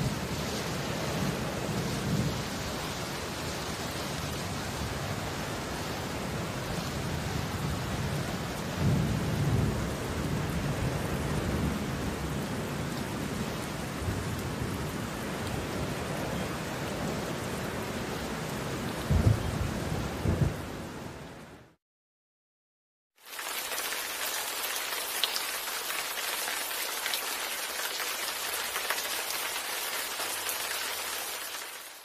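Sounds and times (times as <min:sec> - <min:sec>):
rain and wind hissing: 0:00.0 - 0:21.7, 0:23.2 - 0:32.0.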